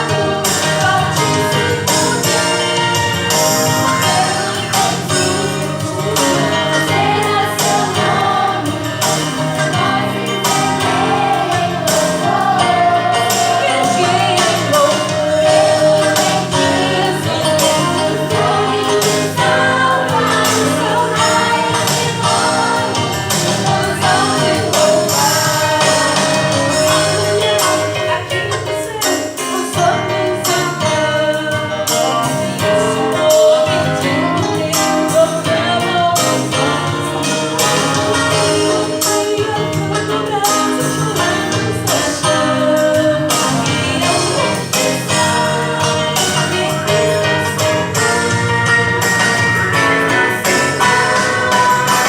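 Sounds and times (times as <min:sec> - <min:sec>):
choir singing with accompaniment: 0:00.0 - 0:52.0.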